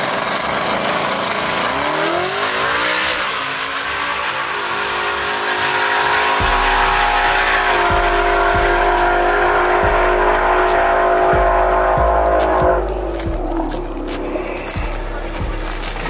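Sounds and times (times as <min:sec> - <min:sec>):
car engine at full throttle: 0:00.0 - 0:16.0.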